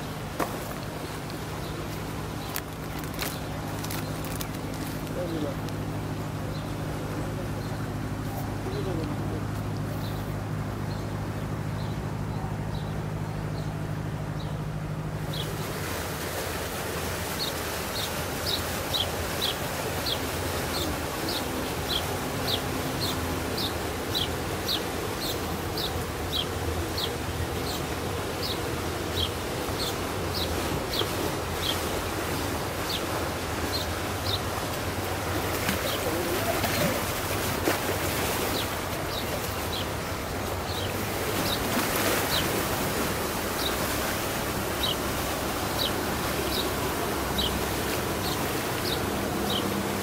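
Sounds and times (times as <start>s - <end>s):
boats passing with water wash: 0.0s - 50.0s
motorboat engine hum: 0.0s - 50.0s.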